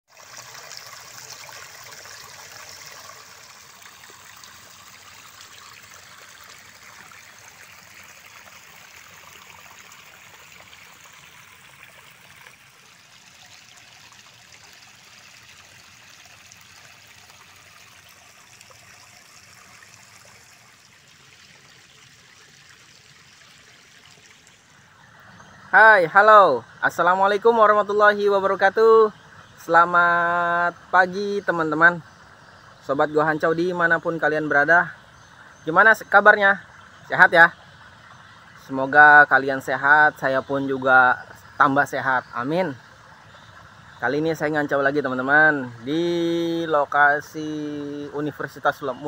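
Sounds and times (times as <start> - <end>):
water trickling over stone ledge: 0.1 - 49.0.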